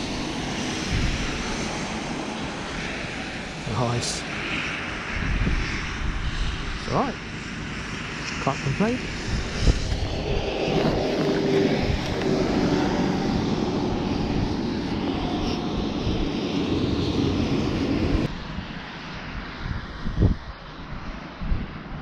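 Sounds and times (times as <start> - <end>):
engine drone: 0.0 - 22.0
wind noise: 0.0 - 22.0.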